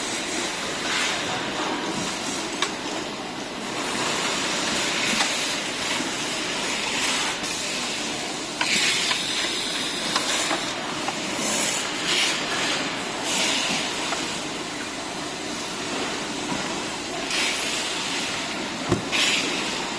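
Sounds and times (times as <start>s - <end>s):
factory assembly line din: 0.0s - 19.9s.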